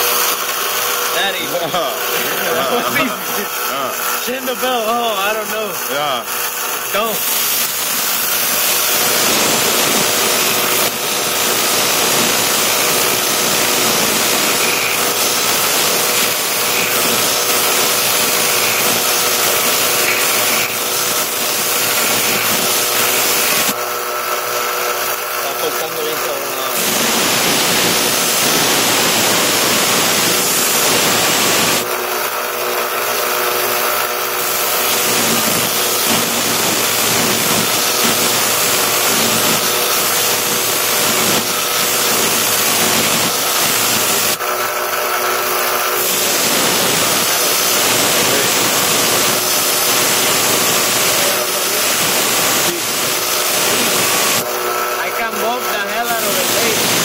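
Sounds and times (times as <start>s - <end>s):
belt grinder grinding steel: 0.0s - 57.0s
motor hum: 0.0s - 57.0s.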